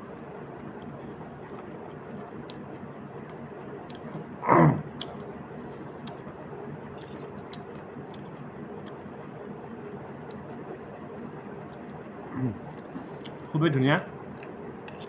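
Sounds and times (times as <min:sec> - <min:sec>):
man chewing food: 0:00.0 - 0:13.5, 0:14.2 - 0:15.0.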